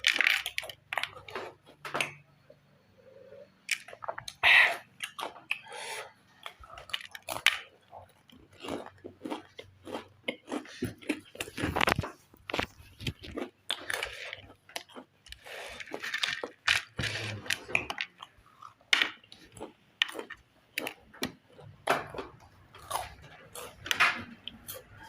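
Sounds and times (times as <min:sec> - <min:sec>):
person crunching chips: 0:00.0 - 0:01.6, 0:03.7 - 0:05.7, 0:06.4 - 0:21.6, 0:22.7 - 0:25.0
wet chewing: 0:03.7 - 0:25.0.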